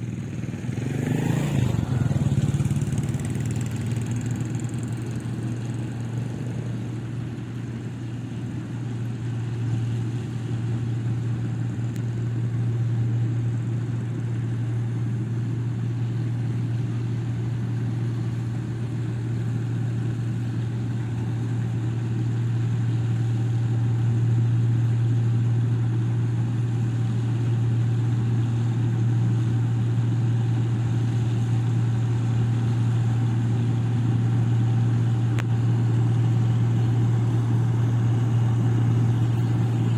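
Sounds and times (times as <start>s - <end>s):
harvester engine droning: 0.0s - 39.9s.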